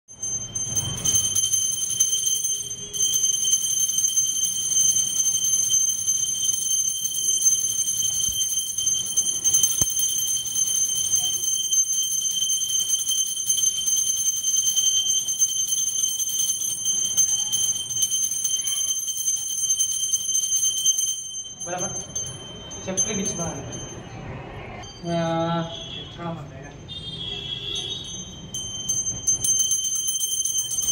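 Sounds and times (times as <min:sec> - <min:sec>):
small brass hand bell ringing: 0:00.1 - 0:26.0, 0:26.8 - 0:30.9.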